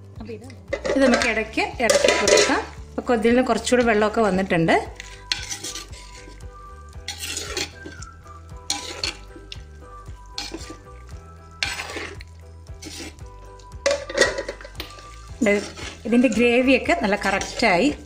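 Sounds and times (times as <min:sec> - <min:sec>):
spoon scraping clay pot: 0:00.6 - 0:02.8, 0:04.8 - 0:18.0.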